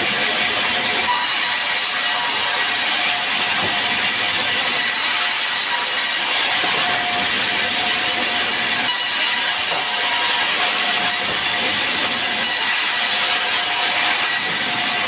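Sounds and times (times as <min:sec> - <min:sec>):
sawmill saw running: 0:00.0 - 0:15.0.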